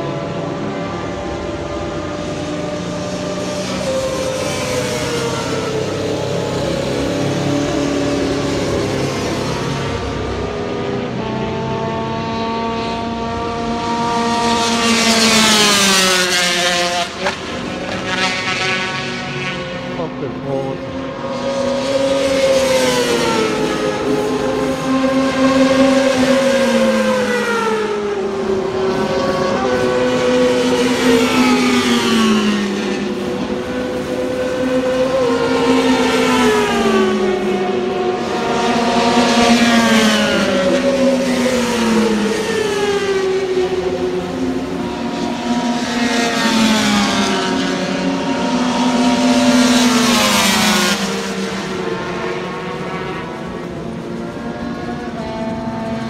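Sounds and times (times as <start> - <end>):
racing motorcycles passing by: 0.0 - 56.0.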